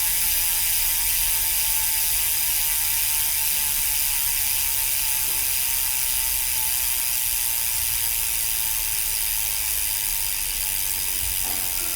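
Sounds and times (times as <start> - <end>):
bicycle freehub ratcheting clicks: 0.0 - 11.9.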